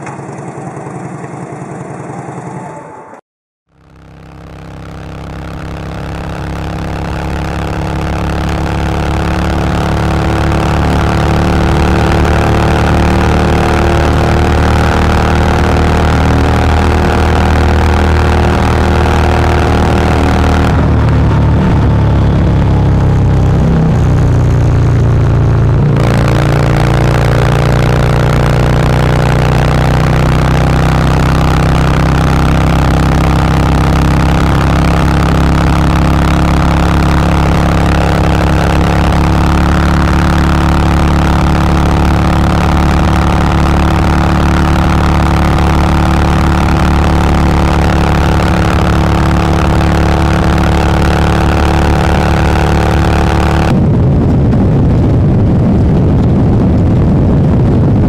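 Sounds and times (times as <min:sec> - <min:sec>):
motorcycle engine cruising: 0:00.0 - 0:58.0
wind and road noise: 0:03.7 - 0:58.0.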